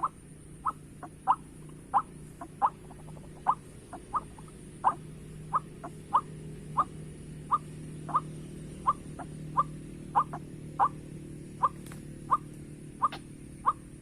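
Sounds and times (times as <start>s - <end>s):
waterhen calling: 0.0s - 11.0s, 11.6s - 14.0s
low steady hum: 0.0s - 14.0s.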